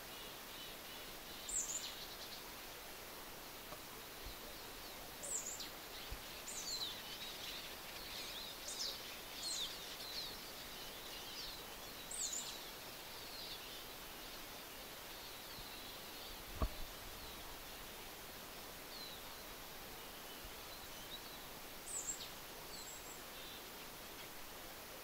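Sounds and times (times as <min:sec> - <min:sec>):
small birds calling: 0:00.0 - 0:02.7, 0:03.6 - 0:17.9, 0:18.8 - 0:24.6
steady background hiss: 0:00.0 - 0:25.0.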